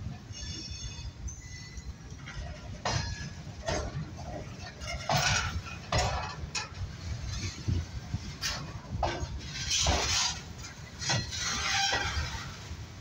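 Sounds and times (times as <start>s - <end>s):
train low rumble: 0.0s - 13.0s
train wagons clanking: 0.0s - 13.0s.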